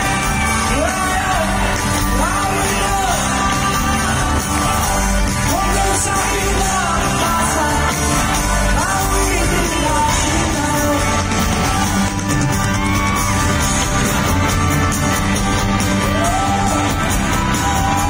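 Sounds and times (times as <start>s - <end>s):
live rock band with singing: 0.0s - 18.0s.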